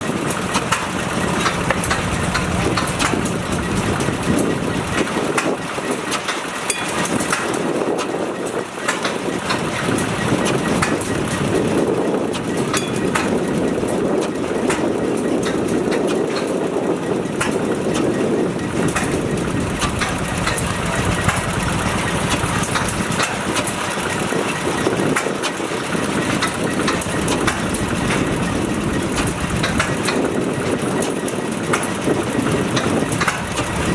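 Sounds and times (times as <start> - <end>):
stationary engine clattering: 0.0 - 33.9.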